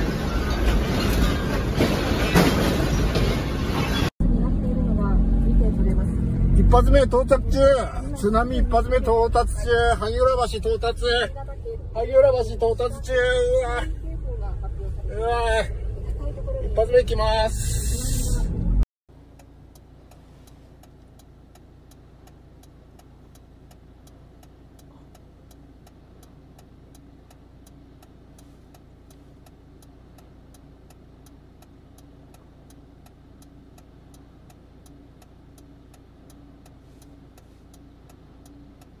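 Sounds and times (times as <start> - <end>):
car engine idling: 4.2 - 39.0.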